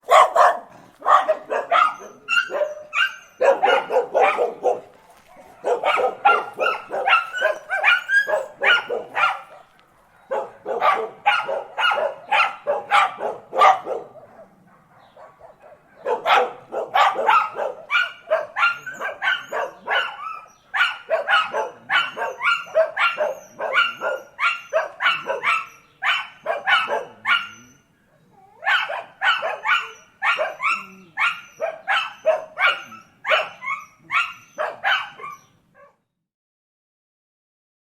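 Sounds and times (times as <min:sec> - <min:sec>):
dogs barking: 0:00.0 - 0:36.0.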